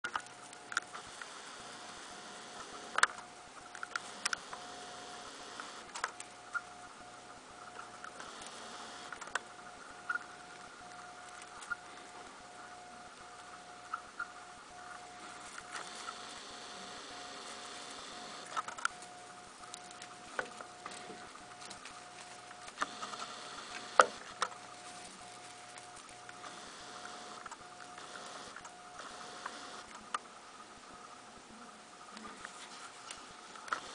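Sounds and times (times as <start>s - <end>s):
faint steady hiss: 0.0s - 33.9s
thin steady tone: 0.0s - 33.9s.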